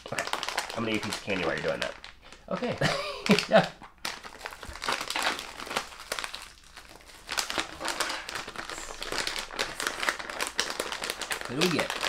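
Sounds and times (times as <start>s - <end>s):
crinkling packaging unwrapped: 0.0s - 12.0s.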